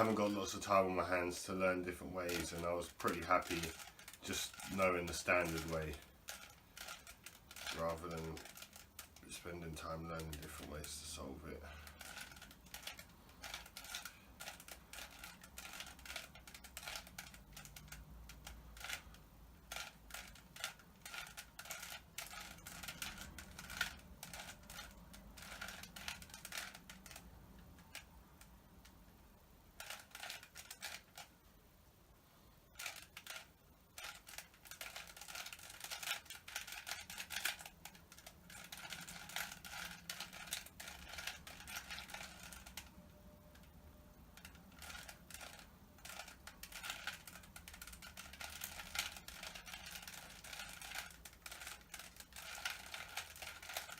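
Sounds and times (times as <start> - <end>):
puzzle cube clicking as turned: 0.0 - 9.2, 11.8 - 29.0, 29.8 - 31.3, 32.7 - 53.9.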